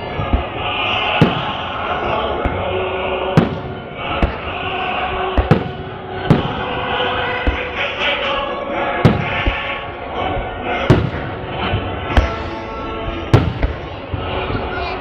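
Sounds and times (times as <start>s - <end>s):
fireworks bursting: 0.0s - 14.7s
crowd voices: 0.0s - 15.0s.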